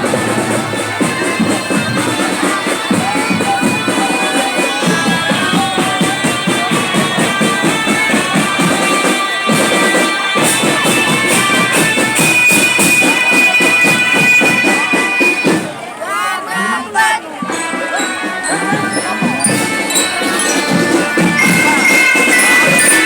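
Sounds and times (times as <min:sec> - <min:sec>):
drum beat: 0:00.0 - 0:15.8, 0:17.0 - 0:23.0
wind instrument melody: 0:00.0 - 0:23.0.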